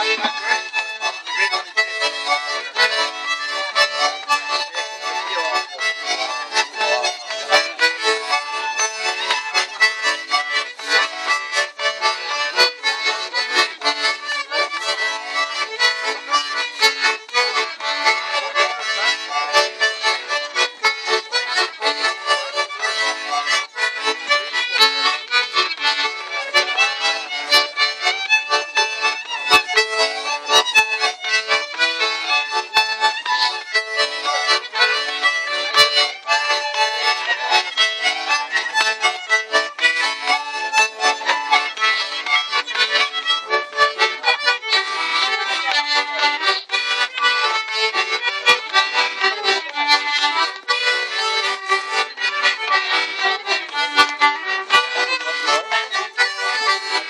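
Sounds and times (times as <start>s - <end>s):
button accordion: 0.0s - 57.0s
fiddle playing dance tune: 0.0s - 57.0s.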